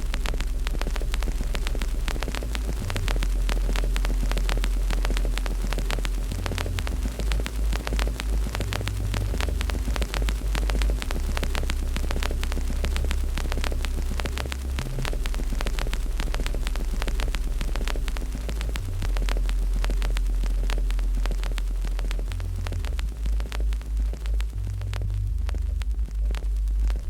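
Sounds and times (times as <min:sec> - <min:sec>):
low rumble: 0:00.0 - 0:27.0
wood fire crackling: 0:00.0 - 0:27.0.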